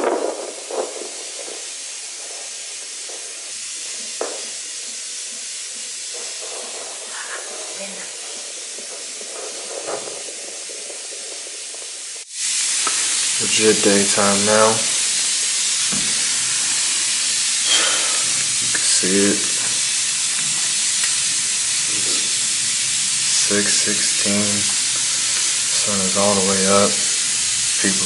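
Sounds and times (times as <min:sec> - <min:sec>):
doppler speaker static hiss: 0:00.0 - 0:28.0.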